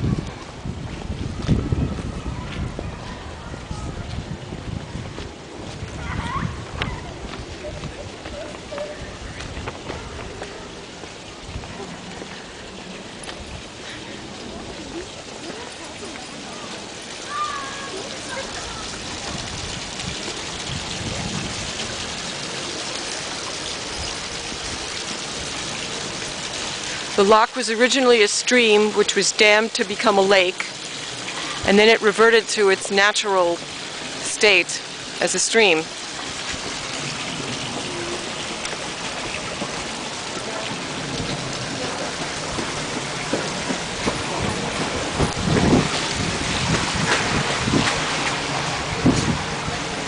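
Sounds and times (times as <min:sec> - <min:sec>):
stream water rushing: 0:04.1 - 0:50.0.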